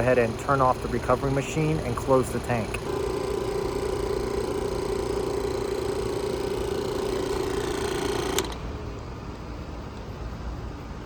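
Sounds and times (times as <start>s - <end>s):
recovery machine humming: 0.0s - 10.4s.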